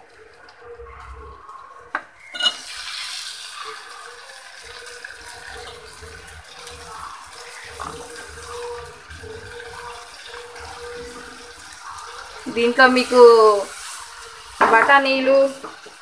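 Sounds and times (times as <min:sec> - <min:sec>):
tomatoes sizzling in hot oil: 0:02.2 - 0:16.0.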